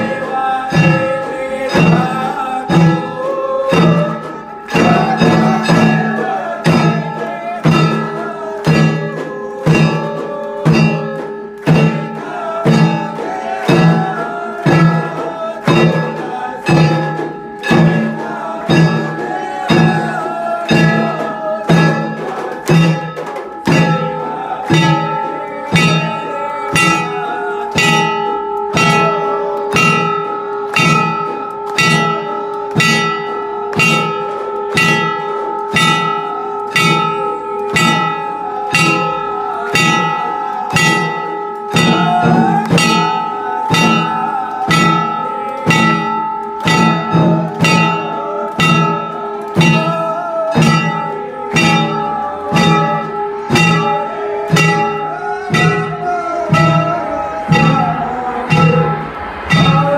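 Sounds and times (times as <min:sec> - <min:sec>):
held steady tone: 0:00.0 - 0:59.9
sharp ringing strikes: 0:00.0 - 0:59.9.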